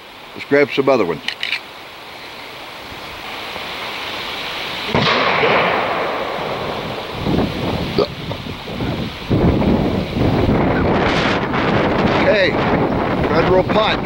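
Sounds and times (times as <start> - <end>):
wind buffeting microphone: 2.6 - 14.0.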